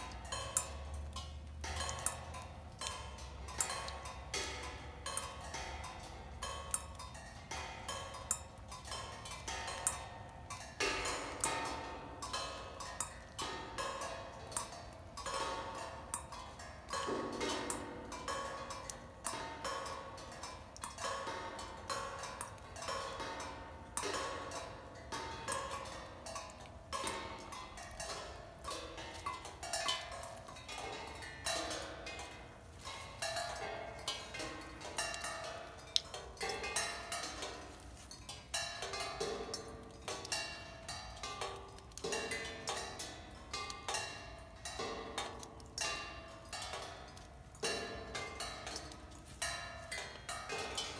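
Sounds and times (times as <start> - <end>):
raindrops pinging on cymbals: 0.0 - 50.9.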